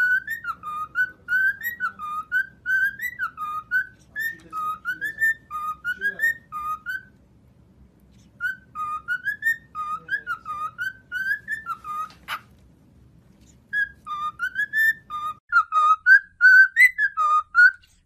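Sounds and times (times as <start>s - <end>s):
parrot whistling a tune: 0.0s - 7.2s, 8.2s - 12.5s, 13.7s - 18.0s.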